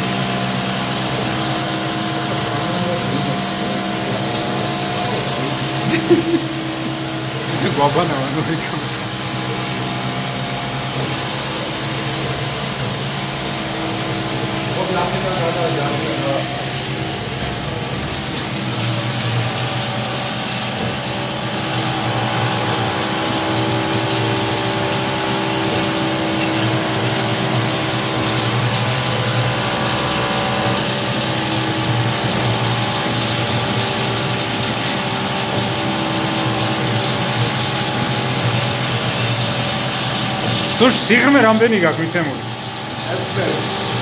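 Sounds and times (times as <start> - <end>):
coolant hiss: 0.0 - 44.0
milling machine spindle humming: 0.0 - 44.0.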